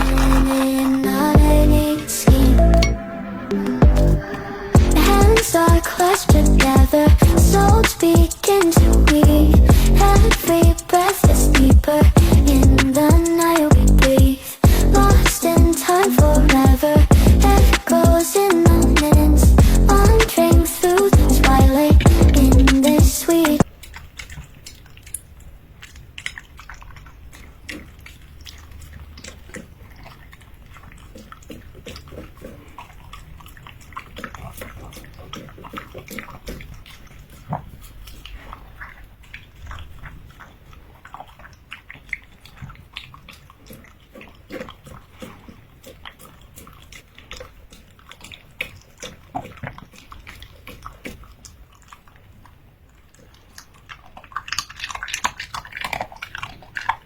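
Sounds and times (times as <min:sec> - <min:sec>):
puppy chewing crunchy food: 0:00.0 - 0:03.0, 0:03.6 - 0:57.0.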